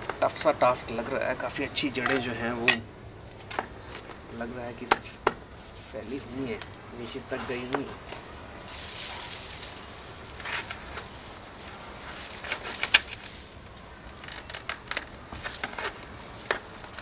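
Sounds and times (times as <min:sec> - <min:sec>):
leaves rustling: 0:00.0 - 0:17.0
soil and roots crackling: 0:00.0 - 0:17.0.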